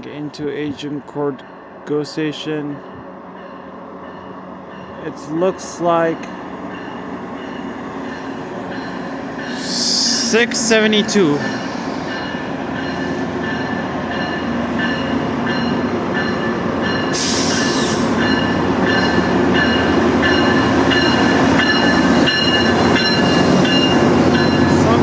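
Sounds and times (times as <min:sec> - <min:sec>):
diesel locomotive running: 0:00.0 - 0:25.0
locomotive bell ringing: 0:01.3 - 0:25.0.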